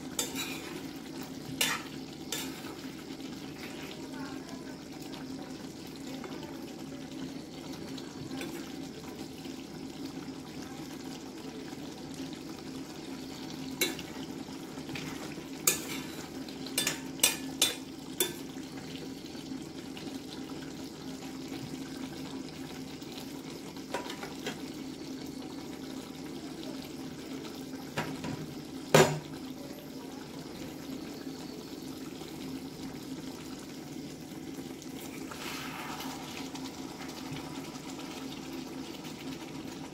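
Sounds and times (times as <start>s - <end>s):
curry bubbling: 0.0s - 39.9s.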